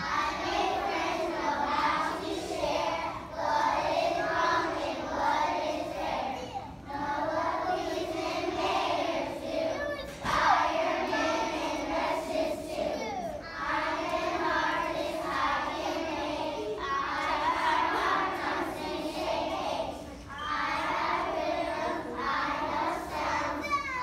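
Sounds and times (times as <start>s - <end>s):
young children singing: 0.0s - 24.0s.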